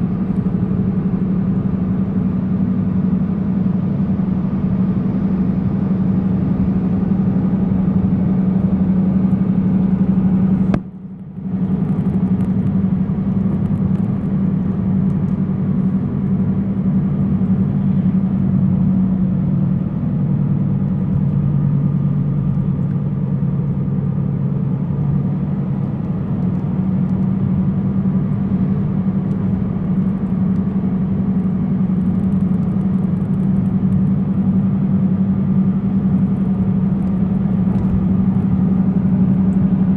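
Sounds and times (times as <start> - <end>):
low droning hum: 0.0 - 39.9
road noise: 0.0 - 39.9.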